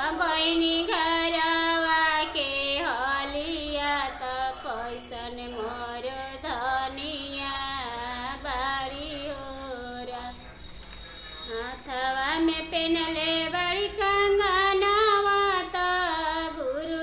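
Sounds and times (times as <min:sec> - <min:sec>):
woman singing unaccompanied: 0:00.0 - 0:10.4, 0:11.5 - 0:17.0.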